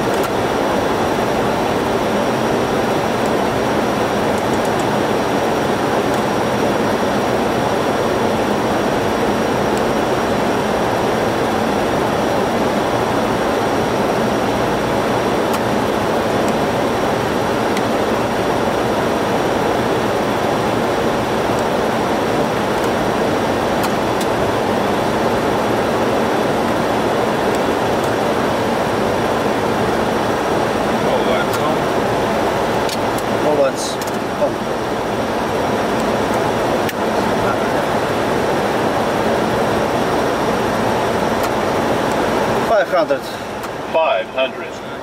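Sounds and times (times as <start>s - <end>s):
airflow and engine noise: 0.0s - 45.0s
faint high whine: 0.0s - 45.0s.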